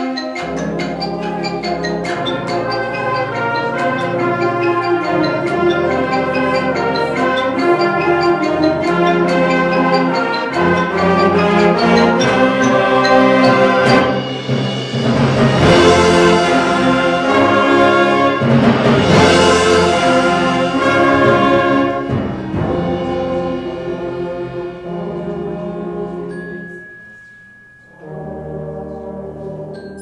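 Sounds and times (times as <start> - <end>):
concert band playing brass chords: 0.4 - 26.3.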